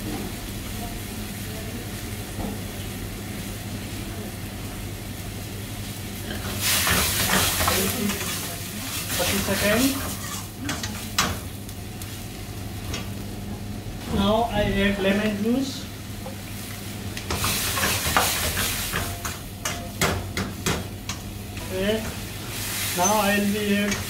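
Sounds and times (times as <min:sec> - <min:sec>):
food sizzling in a wok: 0:00.0 - 0:24.0
gas flame flaring: 0:00.0 - 0:24.0.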